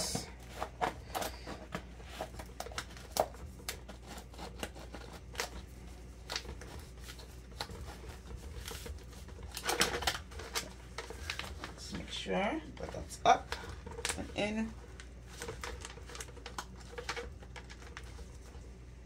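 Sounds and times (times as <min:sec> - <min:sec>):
liner sheet crinkling and rustling: 0:00.0 - 0:18.7.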